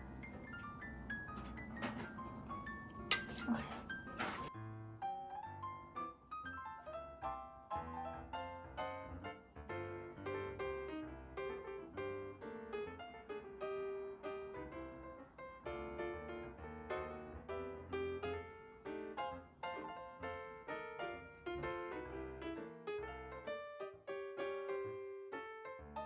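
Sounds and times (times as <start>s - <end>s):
piano melody: 0.0s - 26.0s.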